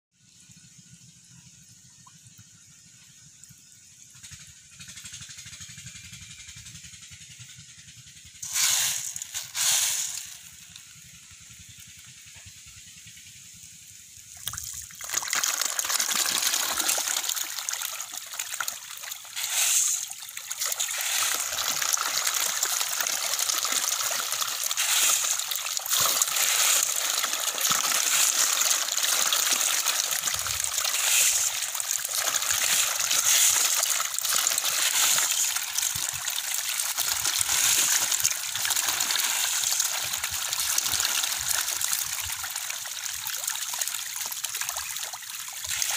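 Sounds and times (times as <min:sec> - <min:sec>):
fish splashing and churning: 0:02.0 - 0:13.6, 0:14.2 - 0:45.9.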